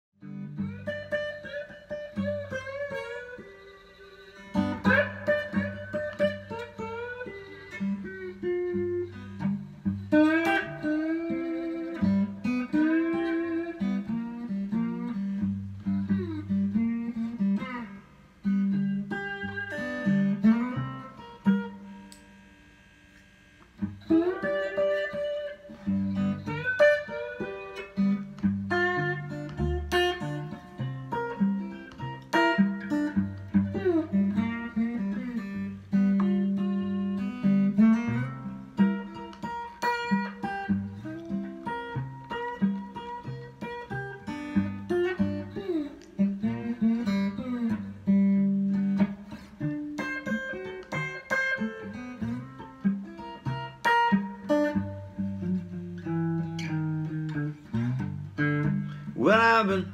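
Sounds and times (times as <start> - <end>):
slide blues electric guitar: 0.2 - 22.6, 23.7 - 59.9.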